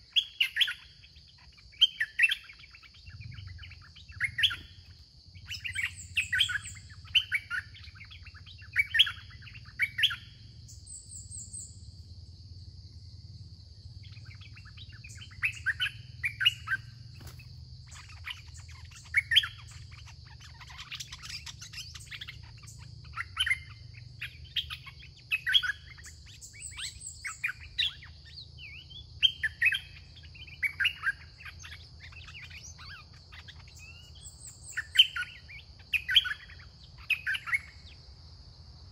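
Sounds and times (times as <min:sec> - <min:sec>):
bulbuls singing bright phrases: 0:00.0 - 0:12.1, 0:13.8 - 0:38.0.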